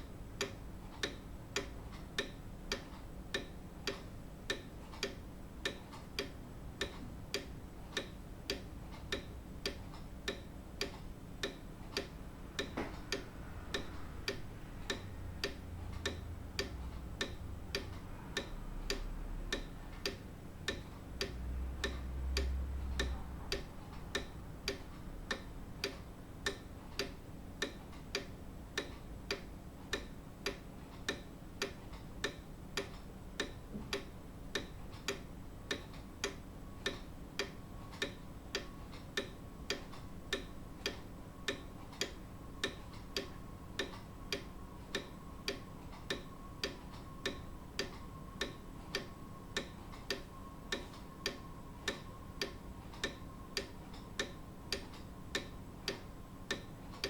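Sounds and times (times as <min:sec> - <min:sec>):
grandfather clock ticking: 0:00.0 - 0:56.8.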